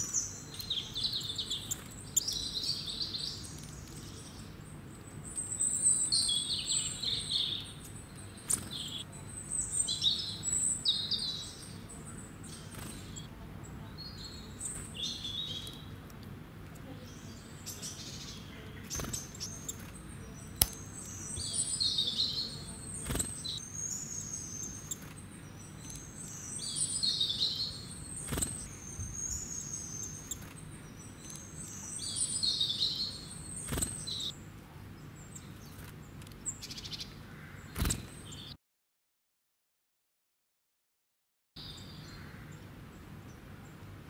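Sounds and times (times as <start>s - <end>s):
bird chirping: 0.0s - 16.0s, 16.8s - 38.6s, 41.6s - 43.8s.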